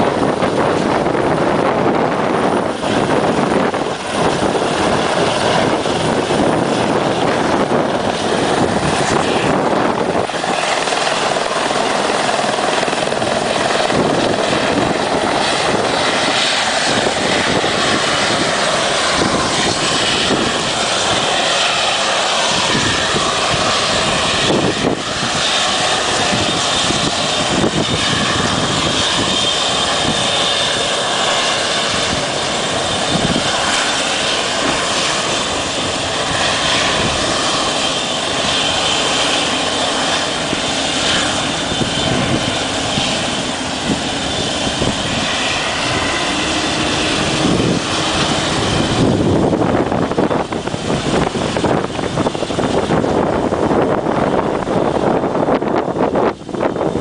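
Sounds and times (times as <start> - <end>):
helicopter engine whine: 0.0 - 57.0
helicopter rotor noise: 0.0 - 57.0
rushing wind noise: 0.0 - 57.0.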